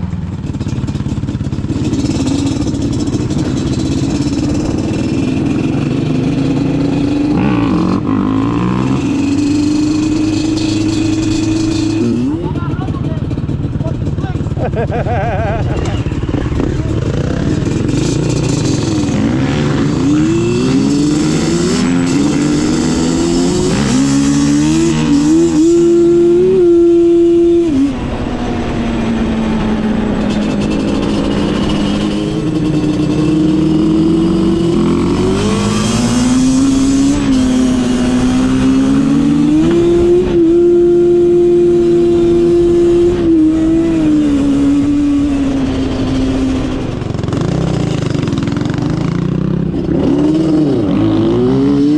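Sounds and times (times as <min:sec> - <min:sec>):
off-road vehicle engine revving: 0:00.8 - 0:51.9.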